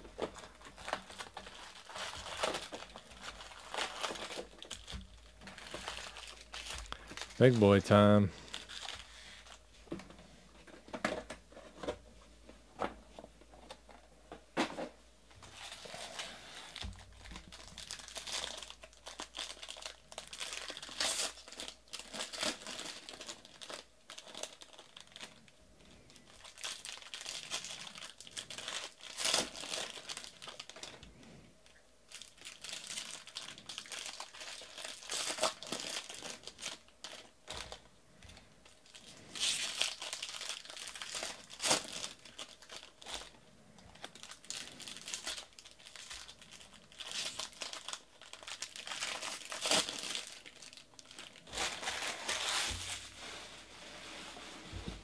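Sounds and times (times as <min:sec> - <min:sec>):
foil wrappers crinkling and tearing: 0:00.0 - 0:09.7, 0:15.4 - 0:53.6.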